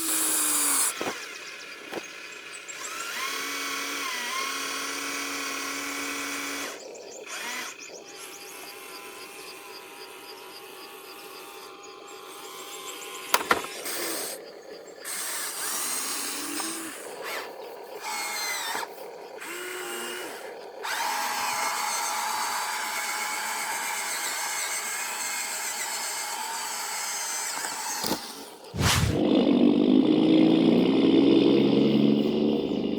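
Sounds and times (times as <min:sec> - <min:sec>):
small electric motors whirring: 0:00.0 - 0:29.3.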